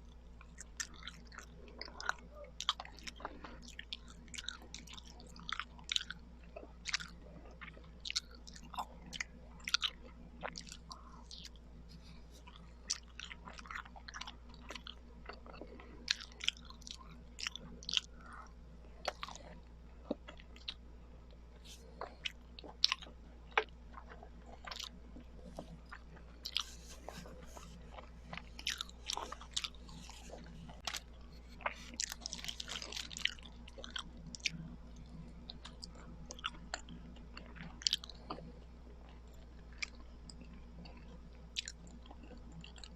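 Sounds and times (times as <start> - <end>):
chewing sticky rice cakes: 0.0 - 42.9.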